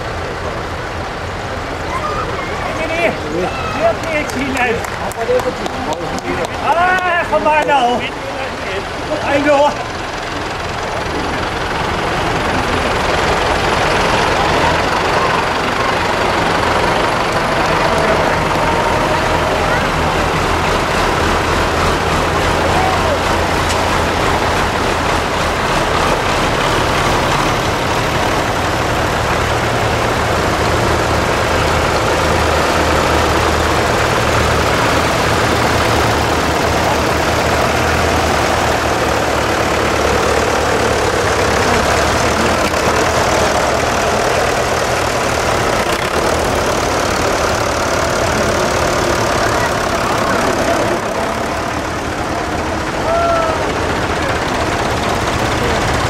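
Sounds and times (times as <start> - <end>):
tractor engines running: 0.0 - 56.0.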